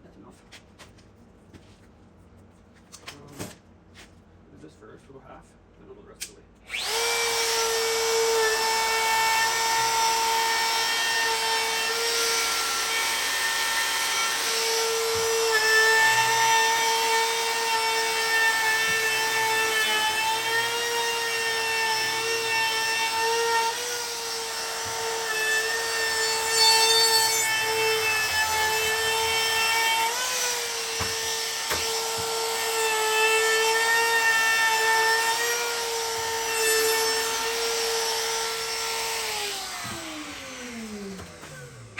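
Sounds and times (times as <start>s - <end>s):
power sander on wood: 6.7s - 41.9s.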